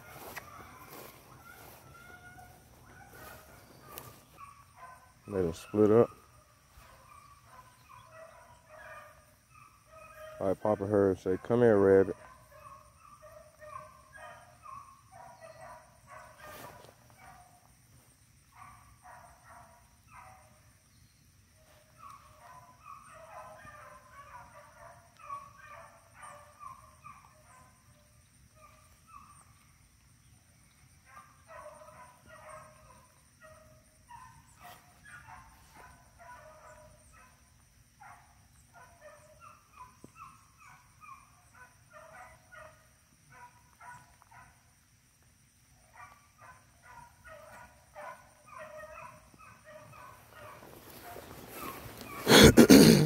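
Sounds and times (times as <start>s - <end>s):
distant dogs baying: 0.0s - 44.8s, 45.8s - 53.0s.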